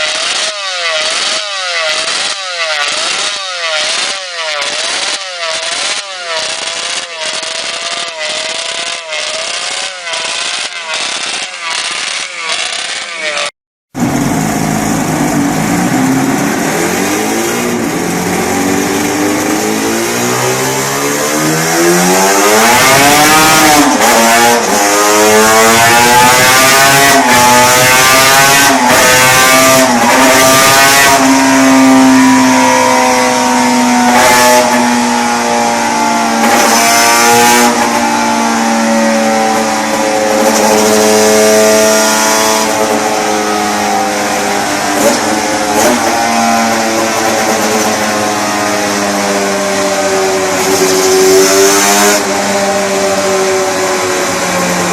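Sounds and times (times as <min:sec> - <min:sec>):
two-stroke motorcycle accelerating: 0:00.0 - 0:54.9.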